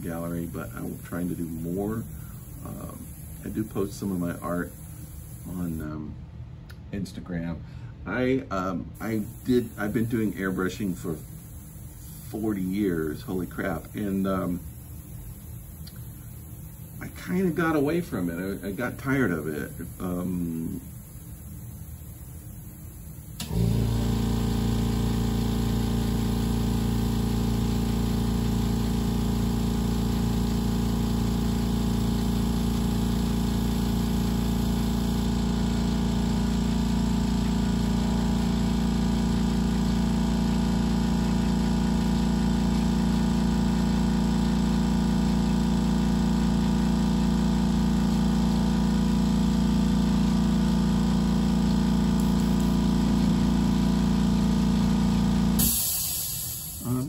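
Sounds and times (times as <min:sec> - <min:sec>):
air compressor motor humming: 0:00.0 - 0:06.1, 0:09.0 - 0:57.0.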